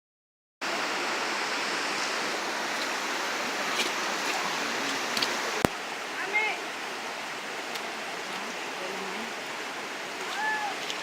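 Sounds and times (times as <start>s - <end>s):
stream water rushing: 0.6s - 11.0s.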